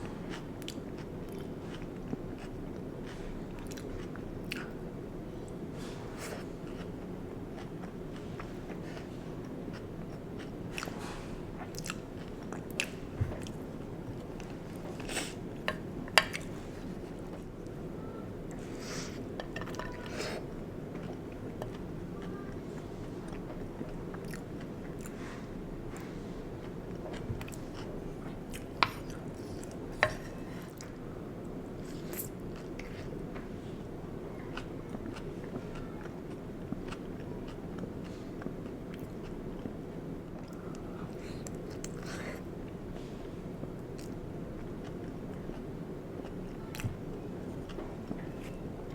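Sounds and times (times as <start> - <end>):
close chewing and mouth sounds: 0.0 - 17.8, 18.5 - 48.9
steady low hum: 0.0 - 48.9.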